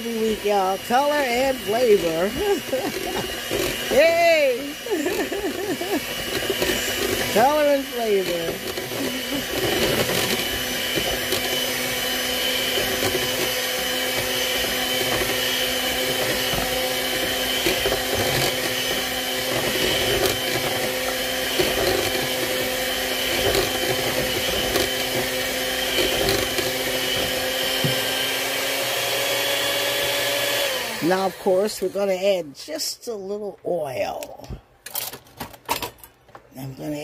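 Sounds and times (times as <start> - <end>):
electric hand mixer whisking: 0.0 - 32.4.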